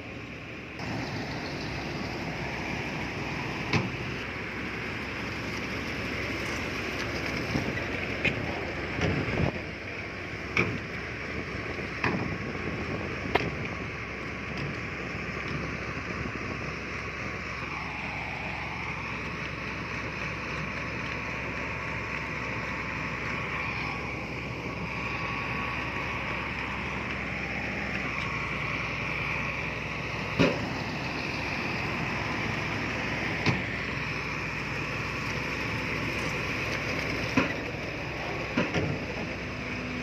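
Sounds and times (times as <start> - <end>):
diesel earthmoving machinery running: 0.0 - 40.0.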